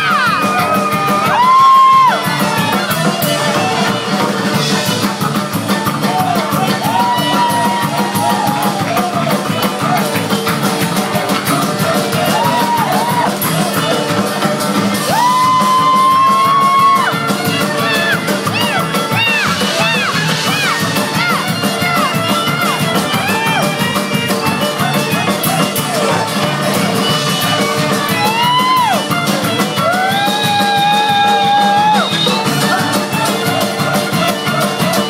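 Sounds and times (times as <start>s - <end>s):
fast drum beat: 0.0s - 35.0s.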